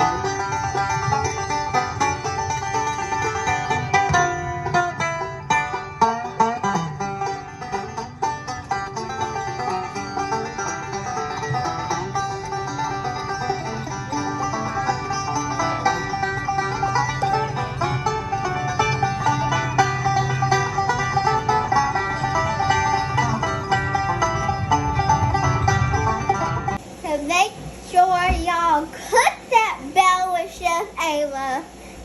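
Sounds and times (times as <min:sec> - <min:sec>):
bluegrass music with plucked strings: 0:00.0 - 0:26.8.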